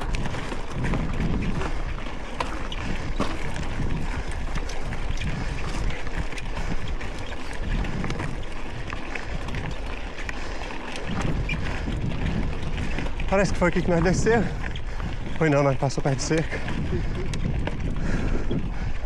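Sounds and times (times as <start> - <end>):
bike clicks and rattles: 0.0 - 19.0
tyre rumble: 0.0 - 19.0
wind on microphone: 0.0 - 19.0.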